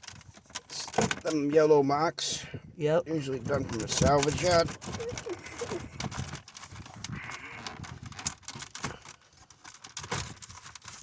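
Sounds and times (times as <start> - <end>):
plastic parts clicking and clattering: 0.0 - 1.6, 3.3 - 11.0.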